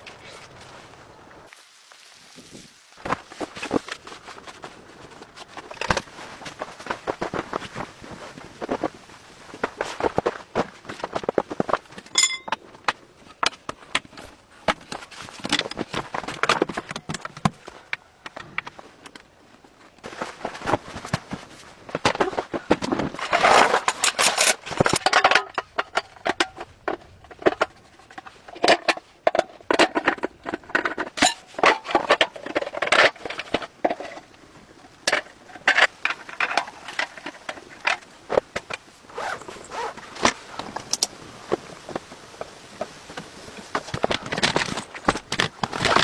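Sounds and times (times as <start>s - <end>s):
things being handled: 2.4s - 46.0s.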